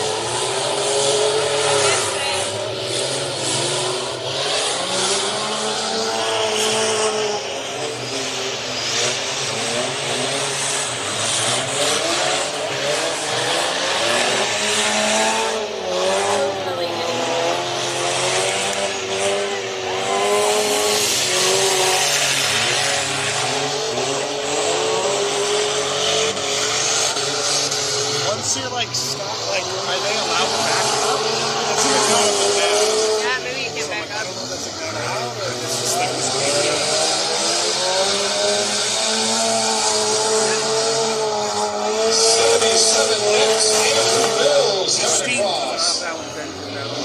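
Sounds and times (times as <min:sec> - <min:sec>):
race car engines revving: 0:00.0 - 0:47.0.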